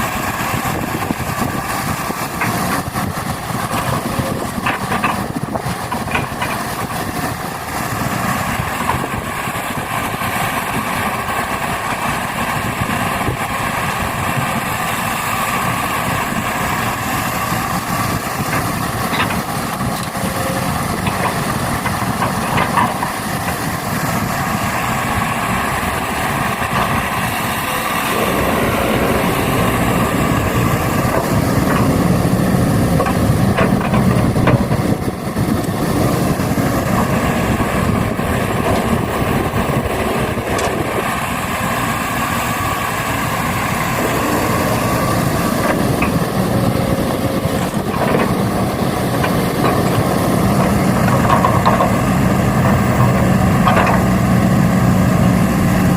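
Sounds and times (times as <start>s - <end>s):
model trucks engine drone: 0.0s - 55.9s.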